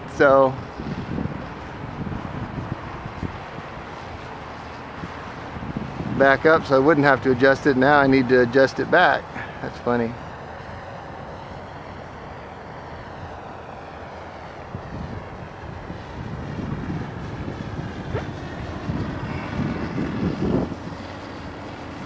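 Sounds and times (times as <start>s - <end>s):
model plane motor drone: 0.0s - 22.0s
wind buffeting microphone: 0.0s - 22.0s.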